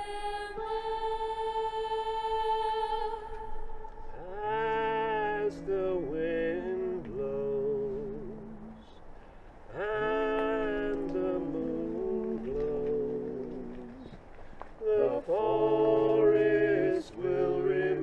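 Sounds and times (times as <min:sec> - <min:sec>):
voices singing a lullaby: 0:00.0 - 0:09.1, 0:09.7 - 0:14.2, 0:14.8 - 0:18.0.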